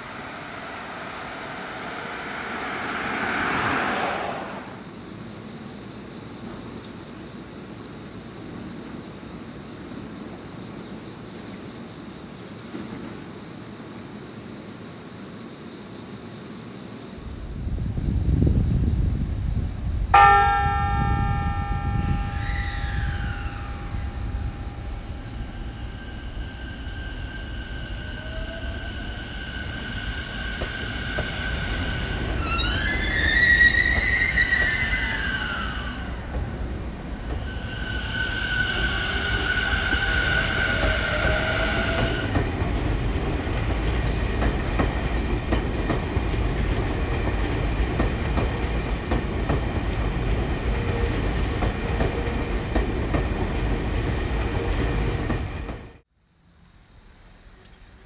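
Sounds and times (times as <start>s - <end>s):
electric train whine: 0.0s - 15.0s, 16.1s - 57.7s
train rumbling on rails: 0.0s - 15.4s, 16.2s - 56.1s.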